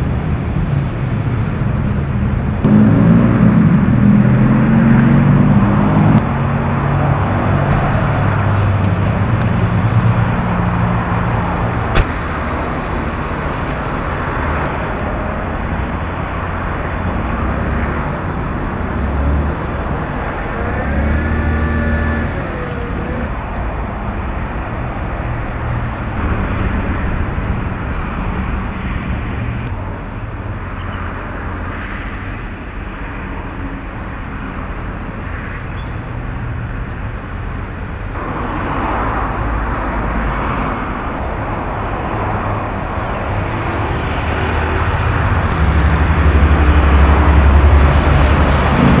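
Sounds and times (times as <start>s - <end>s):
vehicle engine rumble: 0.0s - 49.0s
road traffic hiss: 6.2s - 49.0s.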